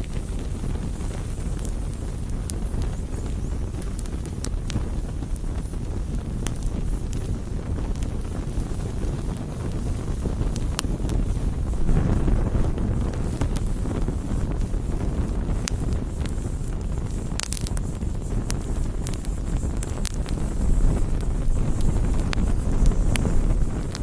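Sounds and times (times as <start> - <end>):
campfire rumbling: 0.0 - 24.0
fire crackles and pops: 0.0 - 24.0.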